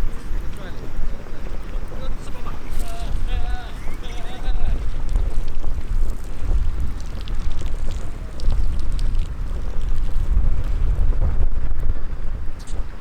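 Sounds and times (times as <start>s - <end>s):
wind buffeting microphone: 0.0s - 13.0s
wood fire crackling: 0.0s - 13.0s.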